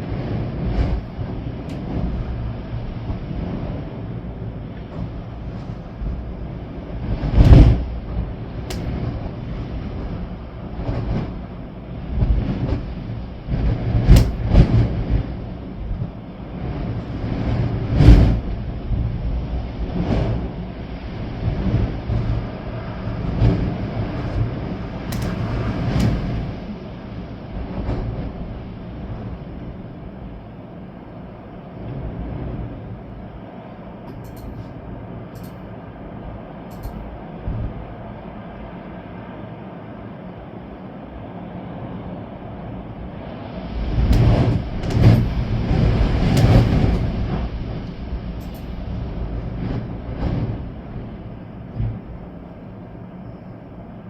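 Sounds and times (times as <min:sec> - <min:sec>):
storm wind and rain: 0:00.0 - 0:54.0
wind gusts buffeting microphone: 0:00.0 - 0:54.0.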